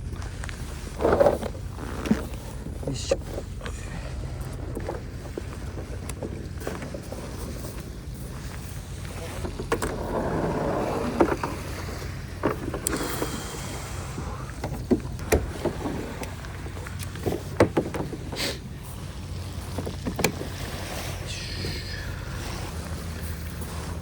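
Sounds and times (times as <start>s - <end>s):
gear knocking and clunking: 0.0s - 24.0s
steady low rumble: 0.0s - 24.0s.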